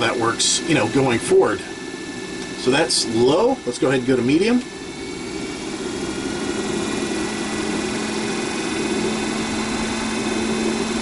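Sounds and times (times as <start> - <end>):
roof vent fan humming: 0.0 - 11.0.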